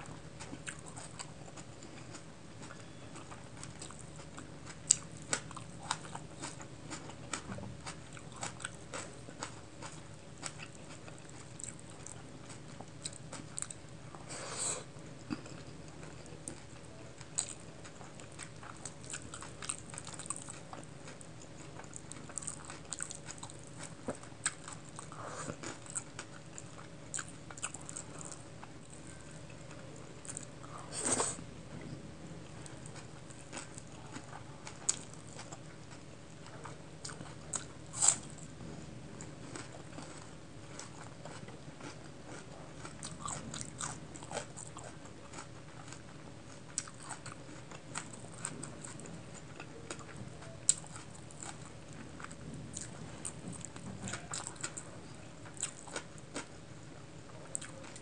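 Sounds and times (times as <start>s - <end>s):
chewing with wet mouth clicks: 0.4s - 13.8s, 15.2s - 30.5s, 32.6s - 38.4s, 39.2s - 56.5s, 57.4s - 58.0s.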